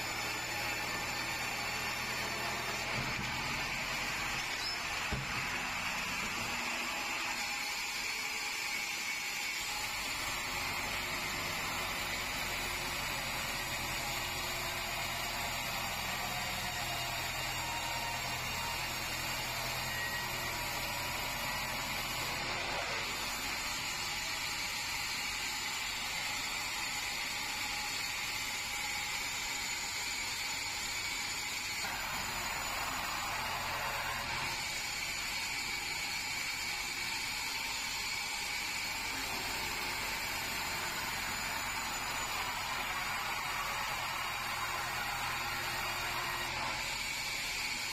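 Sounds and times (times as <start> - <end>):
band saw cutting timber: 0.0 - 47.9.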